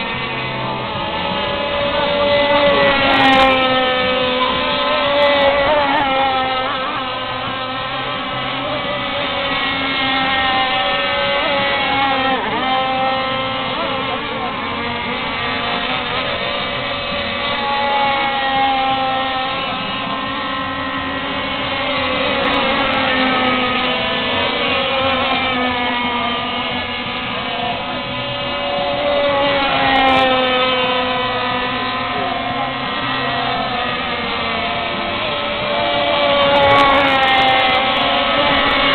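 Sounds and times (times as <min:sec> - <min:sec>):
model boat engines whining: 0:00.0 - 0:38.9.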